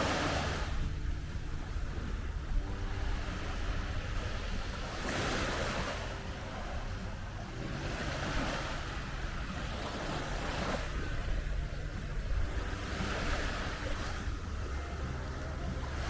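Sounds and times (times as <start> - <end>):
sea waves washing on beach: 0.0 - 16.0
wind rumble on microphone: 0.0 - 16.0.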